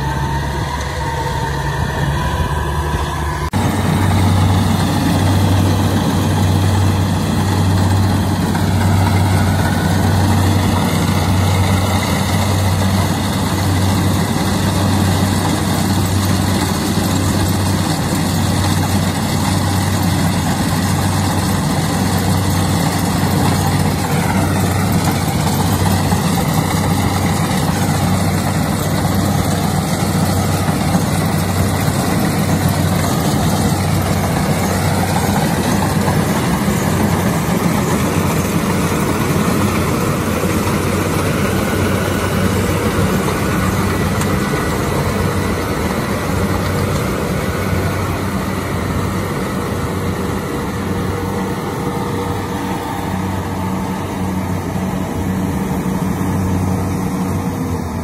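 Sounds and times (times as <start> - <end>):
harvester diesel engine drone: 0.0 - 58.0.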